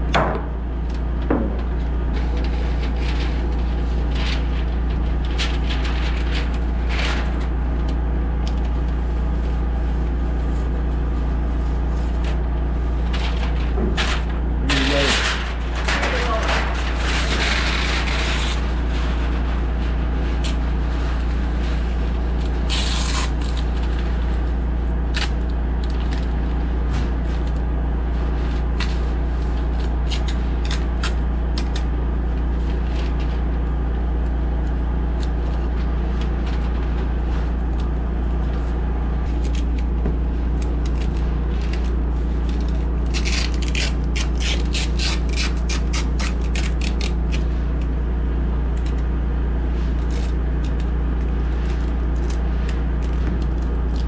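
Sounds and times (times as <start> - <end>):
low machine drone: 0.0 - 54.0.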